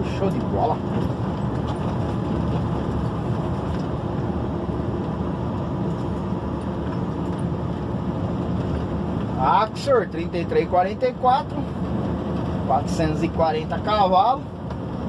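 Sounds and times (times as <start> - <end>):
truck diesel engine under load: 0.0 - 15.0.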